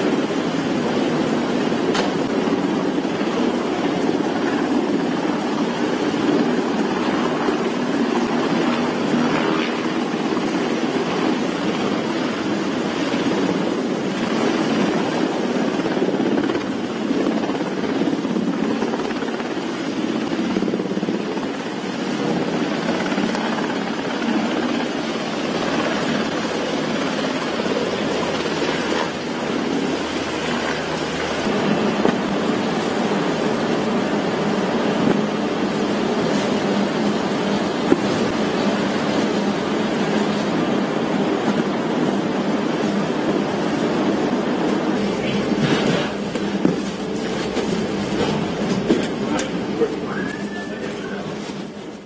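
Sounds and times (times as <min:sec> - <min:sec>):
helicopter hovering: 0:00.0 - 0:52.0
sea noise: 0:00.0 - 0:52.0
wind: 0:00.0 - 0:52.0.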